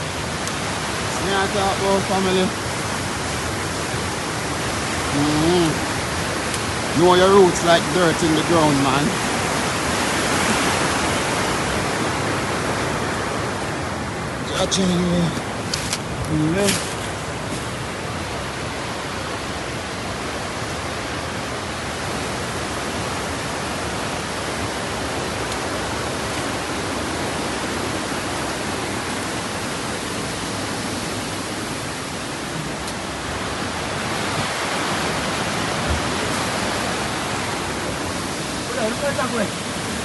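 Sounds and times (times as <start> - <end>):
flooded river rushing: 0.0 - 40.0.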